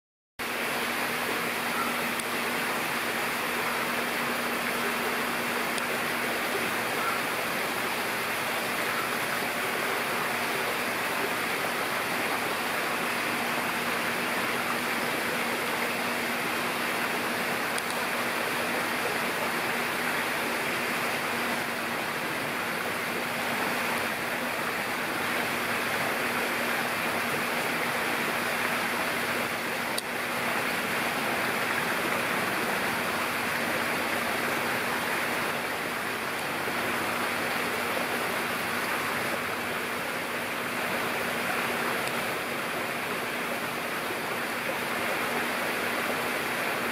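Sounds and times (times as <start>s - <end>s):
running water rushing: 0.4s - 46.9s.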